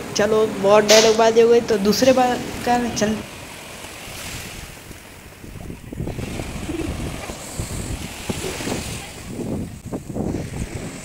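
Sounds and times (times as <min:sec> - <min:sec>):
surf washing in: 0:00.0 - 0:11.0
wind buffeting microphone: 0:00.0 - 0:11.0.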